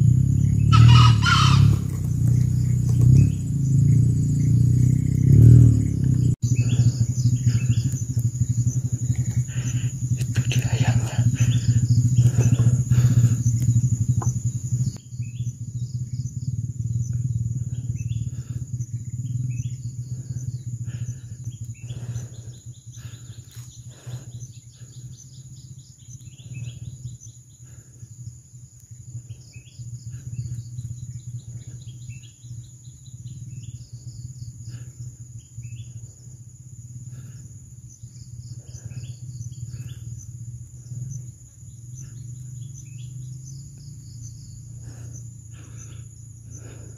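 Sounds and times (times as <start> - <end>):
birds chirping: 0.0 - 46.9
high insect whine: 0.0 - 46.9
low steady hum: 6.3 - 46.9.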